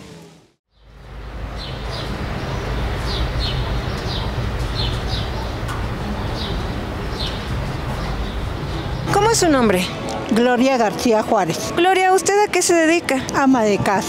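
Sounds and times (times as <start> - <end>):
birds chirping: 0.7 - 14.0.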